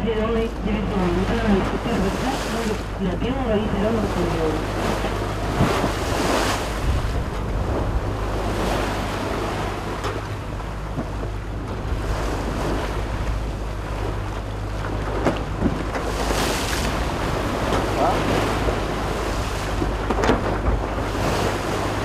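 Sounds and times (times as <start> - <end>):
choppy sea water rushing: 0.0 - 22.0
waves slapping: 0.0 - 22.0
wind rumbling on microphone: 0.0 - 22.0.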